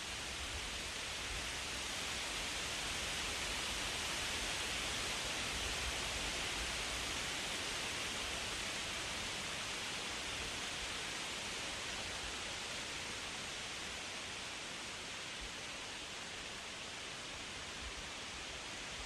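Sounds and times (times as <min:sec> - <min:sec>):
wind rustling tree leaves: 0:00.0 - 0:19.0.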